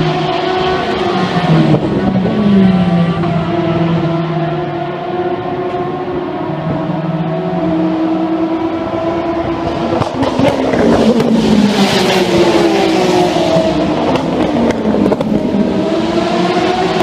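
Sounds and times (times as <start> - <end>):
race car engine steady note: 0.0 - 17.0
race car passing: 0.0 - 17.0.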